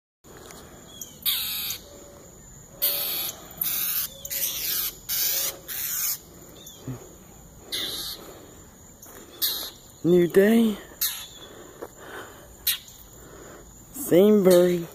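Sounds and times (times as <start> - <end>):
bird harsh raspy calls: 0.6 - 13.7.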